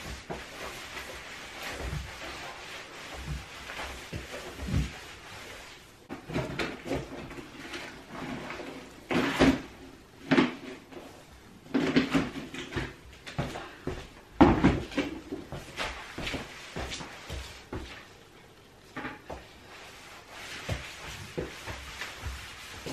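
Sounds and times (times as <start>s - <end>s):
broom sweeping tiled floor: 0.0s - 22.9s.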